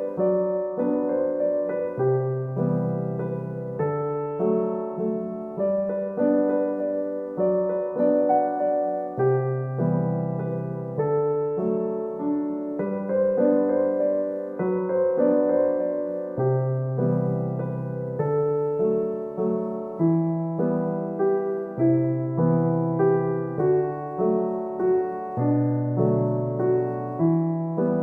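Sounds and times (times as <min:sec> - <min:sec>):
gentle solo piano: 0:00.0 - 0:28.0.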